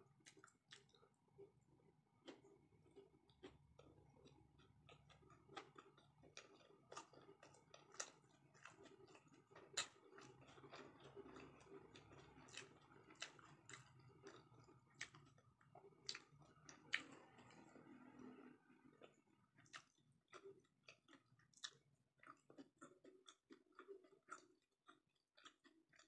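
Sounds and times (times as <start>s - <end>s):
chewing with mouth clicks: 0.0s - 26.0s.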